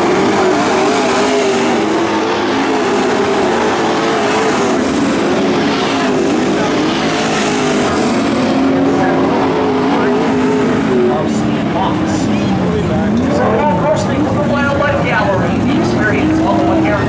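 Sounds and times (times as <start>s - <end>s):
race truck engines passing: 0.0s - 17.0s.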